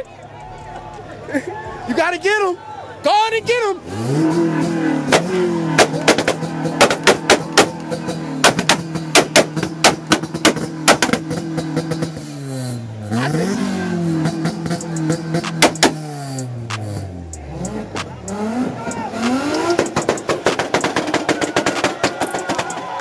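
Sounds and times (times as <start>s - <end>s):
exhaust popping: 3.4s - 23.0s
car engine at rev limiter: 3.5s - 23.0s.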